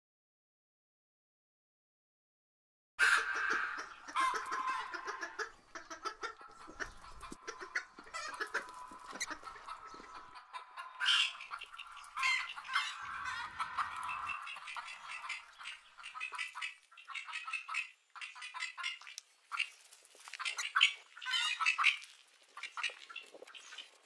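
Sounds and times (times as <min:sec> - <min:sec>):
hens clucking: 0:03.0 - 0:24.0.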